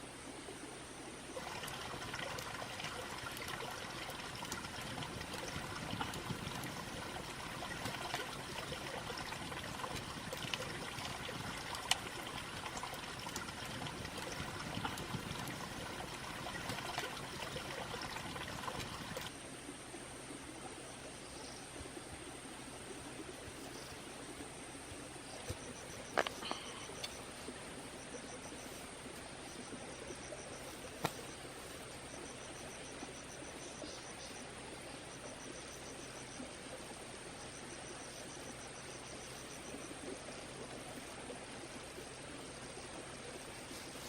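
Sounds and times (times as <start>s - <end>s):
water trickling and splashing: 0.0s - 44.0s.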